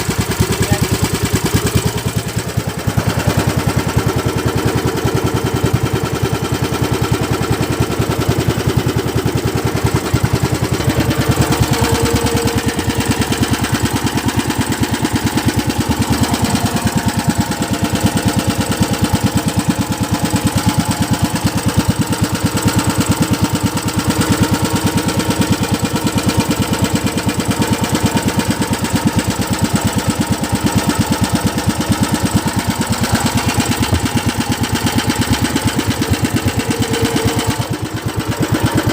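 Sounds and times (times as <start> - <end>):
boat engine chugging: 0.0 - 38.9.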